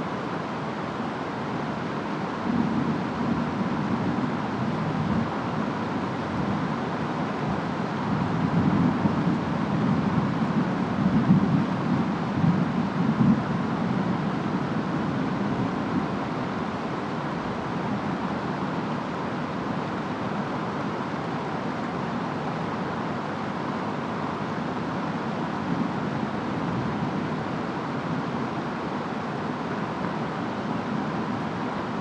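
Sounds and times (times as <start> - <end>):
steady rain with wind: 0.0 - 32.0.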